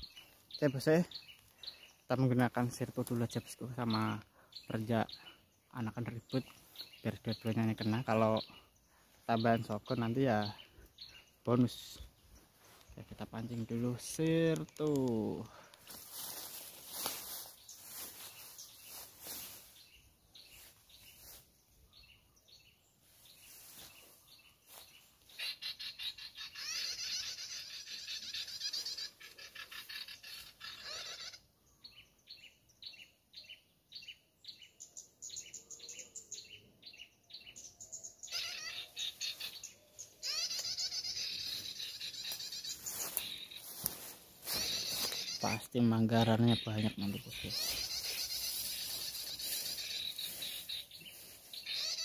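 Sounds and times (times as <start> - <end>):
songbird chattering trill: 0.0 - 15.7, 16.3 - 52.0
sharp bird chirps: 0.0 - 52.0.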